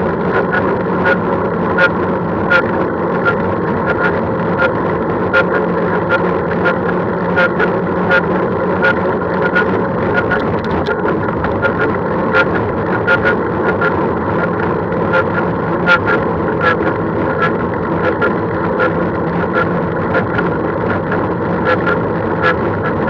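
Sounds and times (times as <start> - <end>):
vehicle road noise: 0.0 - 23.0.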